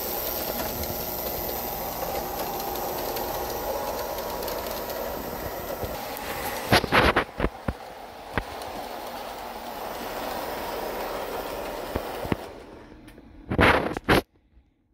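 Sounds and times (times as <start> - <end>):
toy train running on track: 0.0 - 13.0
wheels clicking over track joints: 0.0 - 13.1.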